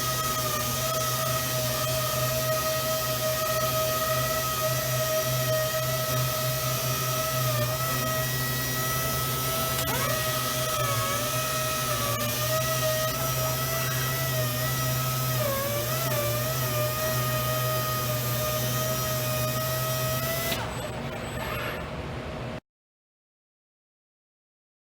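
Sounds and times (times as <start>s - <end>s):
power sander whining: 0.0s - 22.0s.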